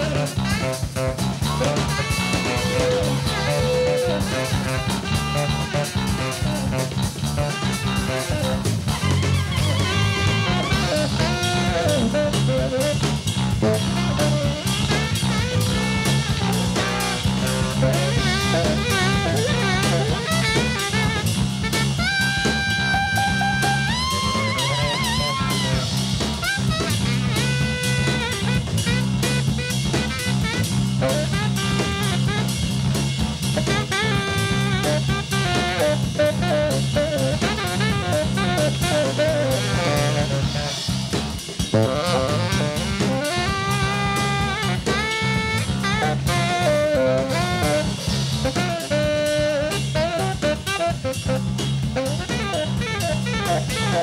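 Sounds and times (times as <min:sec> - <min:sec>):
funk band playing: 0:00.0 - 0:54.0.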